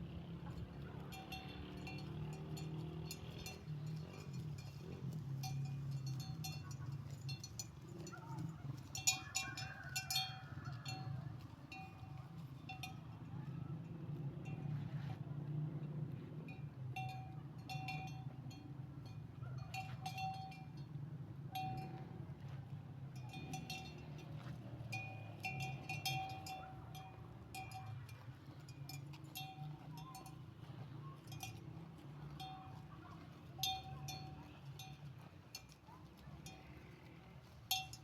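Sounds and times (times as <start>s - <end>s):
sheep bells clanking: 0.1s - 38.0s.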